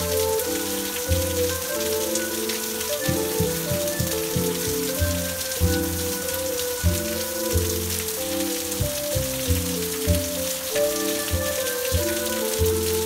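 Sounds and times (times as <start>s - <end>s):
slow music of low chords: 0.0s - 13.0s
steady rain: 0.0s - 13.0s.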